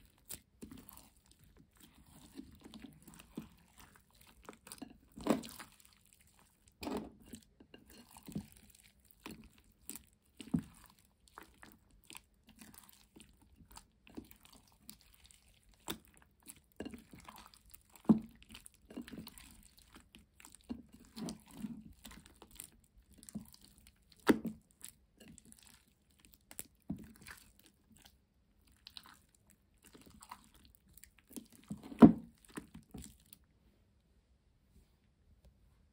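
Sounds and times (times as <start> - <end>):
slime squelching and popping: 0.0 - 33.4.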